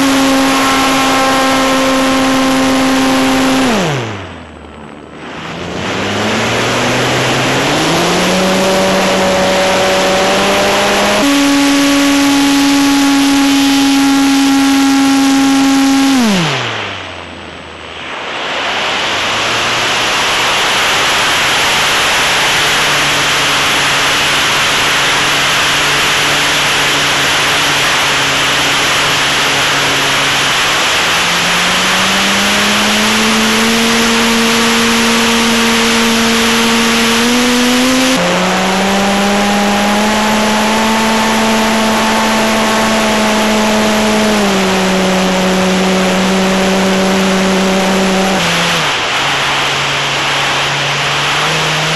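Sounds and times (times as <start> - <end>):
model plane propeller hum: 0.0 - 51.9.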